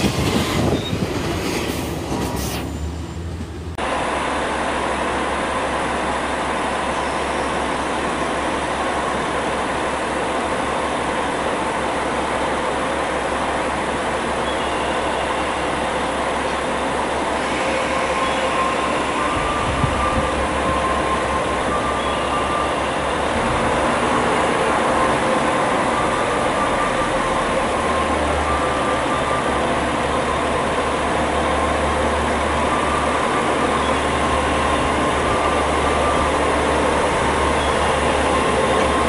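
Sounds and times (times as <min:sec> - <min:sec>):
diesel engine rumble: 0:00.0 - 0:39.0
train wheel running noise: 0:00.0 - 0:39.0.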